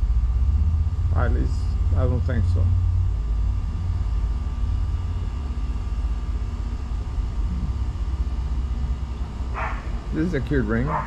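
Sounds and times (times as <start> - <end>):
faint higher hum: 0.0 - 11.0
low rumble: 0.0 - 11.0.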